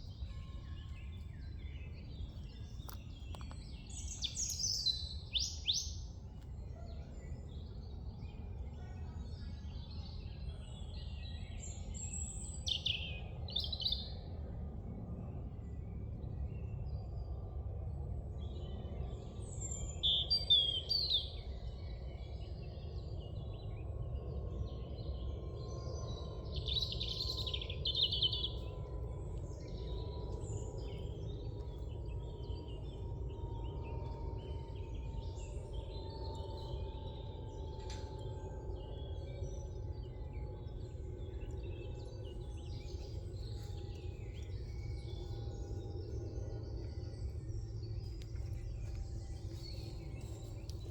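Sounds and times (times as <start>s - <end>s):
birds singing and calling: 0.0s - 14.2s, 18.4s - 23.7s, 25.0s - 50.9s
low background rumble: 0.0s - 50.9s.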